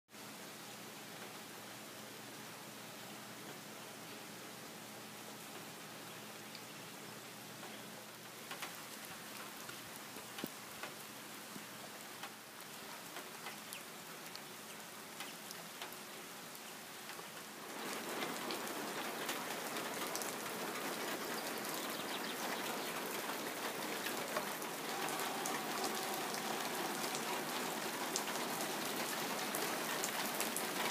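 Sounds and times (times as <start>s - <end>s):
rain falling: 0.2s - 30.9s.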